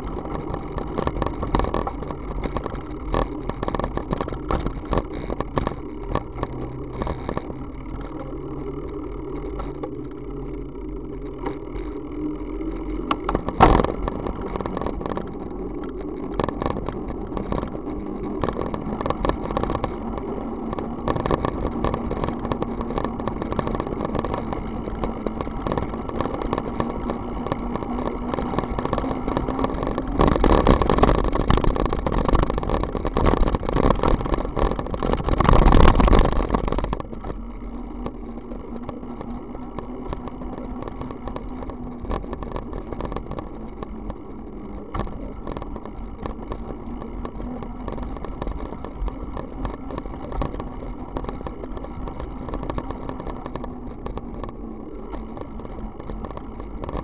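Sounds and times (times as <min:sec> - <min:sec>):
tyre and road noise: 0:00.0 - 0:57.0
wind rushing over microphone: 0:00.0 - 0:57.0.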